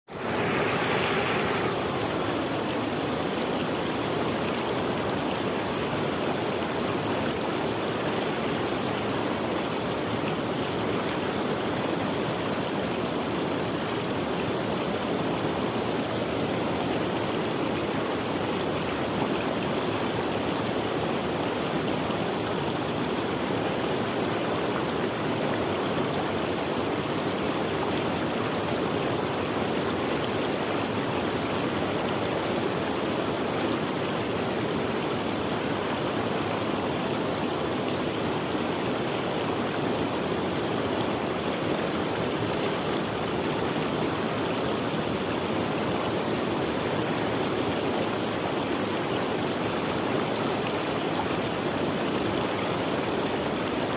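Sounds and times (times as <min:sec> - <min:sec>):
stream water rushing: 0:00.0 - 0:53.9.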